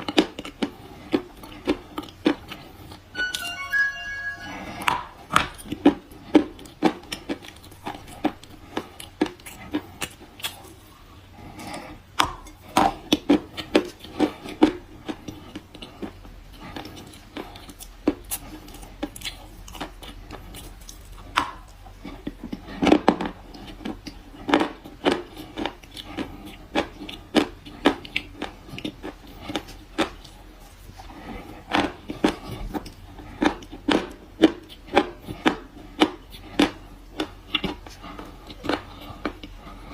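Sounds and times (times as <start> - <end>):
crunching and chewing chalk: 0.0 - 3.0, 5.8 - 39.9.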